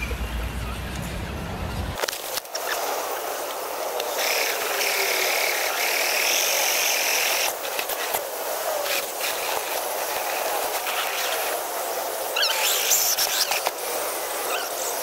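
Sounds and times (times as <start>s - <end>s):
small electric motor whine: 2.0s - 15.0s.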